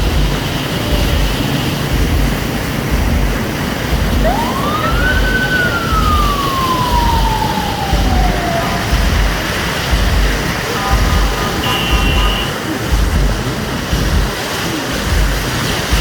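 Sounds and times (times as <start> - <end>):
rain: 0.0 - 16.0
road traffic: 0.0 - 16.0
emergency siren wail: 0.7 - 13.8.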